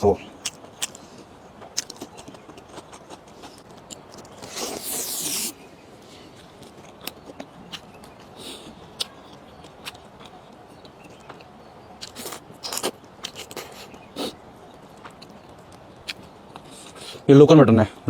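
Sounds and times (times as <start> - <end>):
person chewing: 0.4 - 5.6, 6.3 - 17.2.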